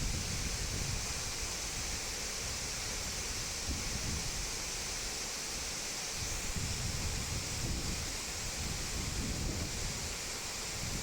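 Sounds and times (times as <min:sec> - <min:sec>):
wind buffeting microphone: 0:00.0 - 0:04.5, 0:06.2 - 0:11.0.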